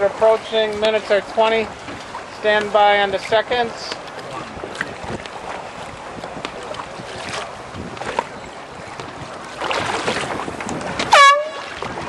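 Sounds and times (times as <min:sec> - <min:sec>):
water splashes: 0:00.0 - 0:12.0
wind buffeting microphone: 0:00.0 - 0:12.0.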